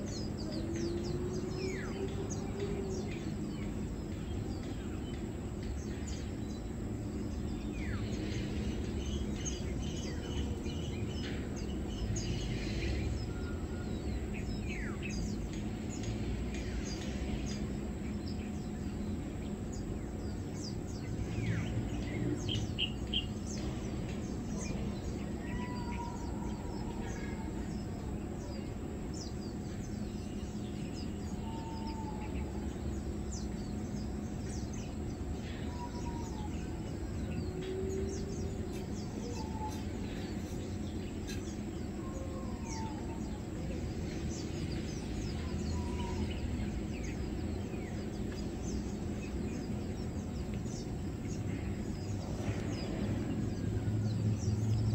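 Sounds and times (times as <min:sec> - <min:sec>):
low background rumble: 0:00.0 - 0:54.9.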